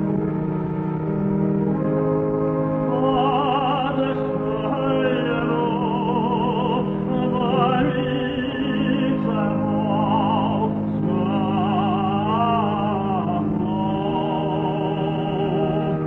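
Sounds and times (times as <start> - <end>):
sustained accompaniment chords: 0.0 - 16.0
person singing with vibrato: 2.8 - 16.0.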